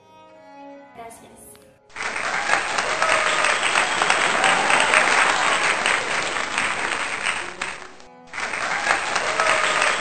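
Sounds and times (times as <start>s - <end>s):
crowd applause: 1.9s - 10.0s.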